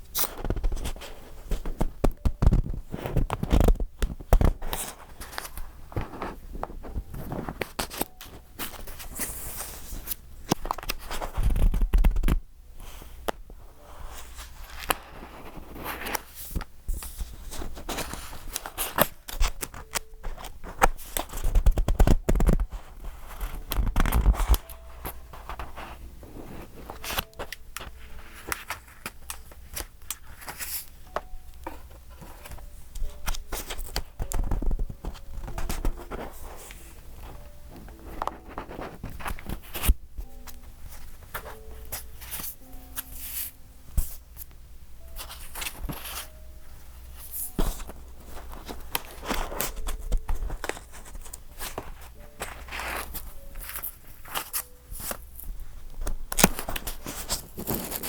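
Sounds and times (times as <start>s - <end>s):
paper pages turning: 0.0s - 58.0s.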